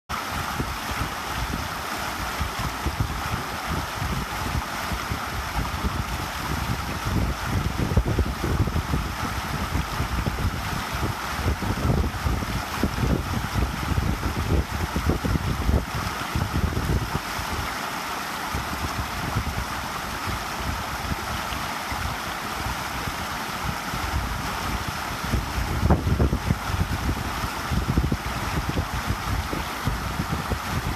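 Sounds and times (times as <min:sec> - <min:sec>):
stream running: 0:00.1 - 0:30.9
wind buffeting microphone: 0:00.4 - 0:17.7, 0:18.5 - 0:30.9.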